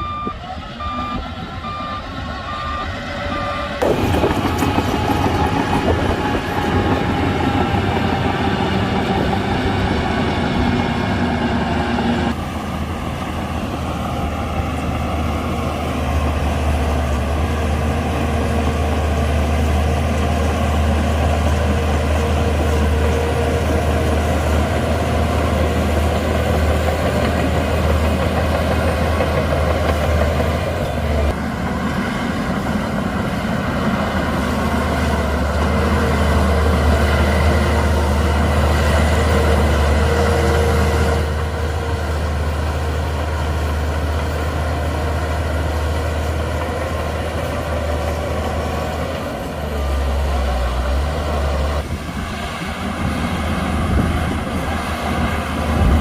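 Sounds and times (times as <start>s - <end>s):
bulldozer diesel engine under load: 0.0s - 56.0s
steel tracks moving: 1.2s - 56.0s.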